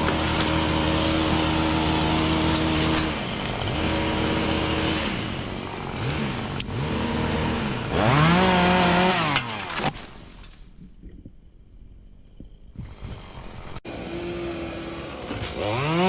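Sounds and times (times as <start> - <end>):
chainsaw engine idling and revving: 0.0 - 10.2, 12.8 - 16.0.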